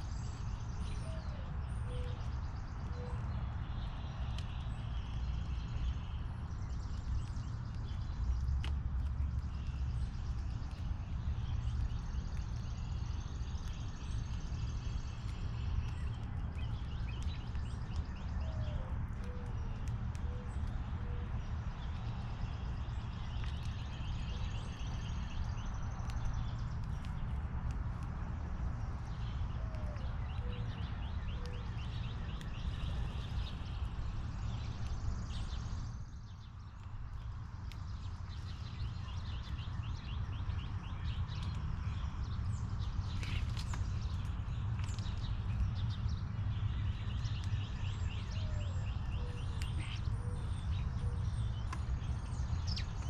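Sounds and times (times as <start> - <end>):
songbirds chirping and trilling: 0.0 - 53.0
steady low rumble: 0.0 - 53.0.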